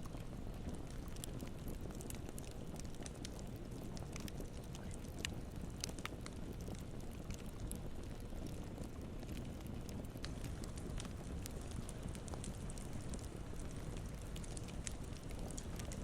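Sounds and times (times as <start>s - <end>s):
burning wood crackling and popping: 0.0s - 16.0s
campfire low rumble: 0.0s - 16.0s.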